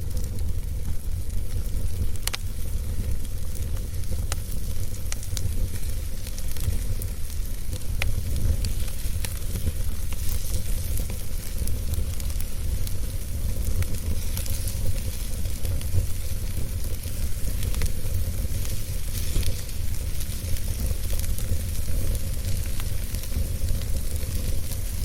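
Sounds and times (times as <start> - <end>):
fire low rumble and hiss: 0.0 - 25.0
wood fire crackling and popping: 0.0 - 25.0.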